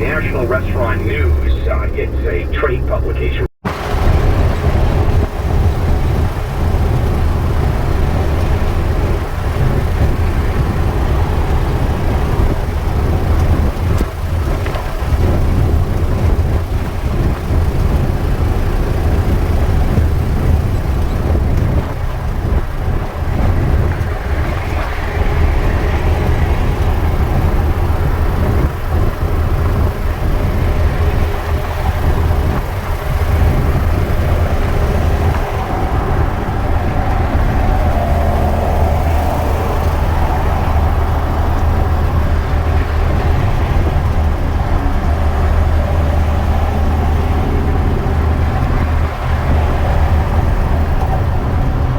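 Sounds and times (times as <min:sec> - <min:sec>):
diesel truck engine rumble: 0:00.0 - 0:51.9
road noise: 0:00.0 - 0:51.9.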